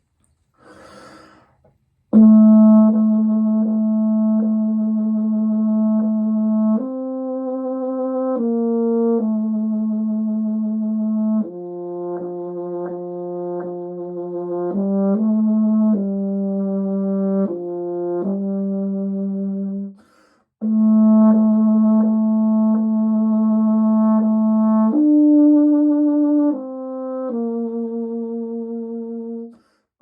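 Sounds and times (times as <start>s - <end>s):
solo brass hymn tune: 2.1s - 20.0s, 20.6s - 29.6s.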